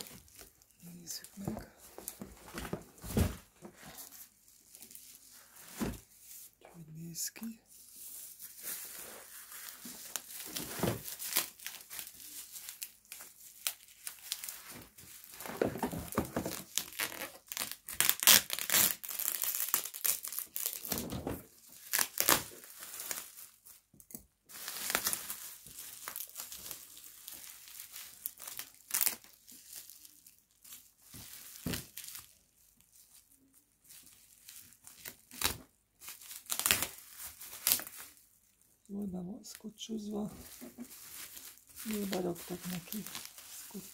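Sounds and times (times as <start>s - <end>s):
bubble wrap crinkling and tearing: 0.0s - 6.6s, 7.4s - 43.9s.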